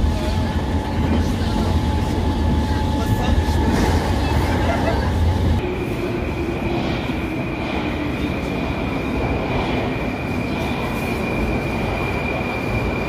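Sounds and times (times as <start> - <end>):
train equipment high whine: 0.0 - 13.0.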